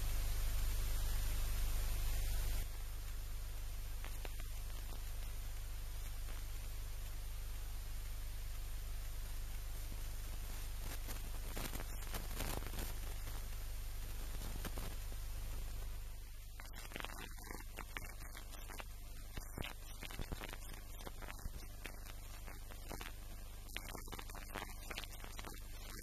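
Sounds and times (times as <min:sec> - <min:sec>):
faint ticks: 0:02.5 - 0:15.0, 0:16.5 - 0:26.0.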